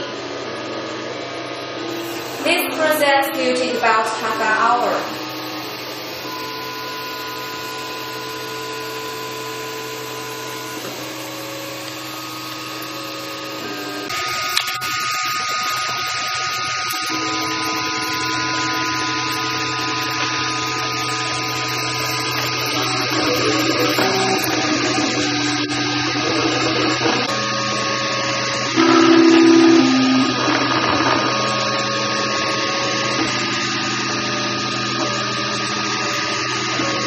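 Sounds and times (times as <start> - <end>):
stepper motors whining: 1.8 - 37.0.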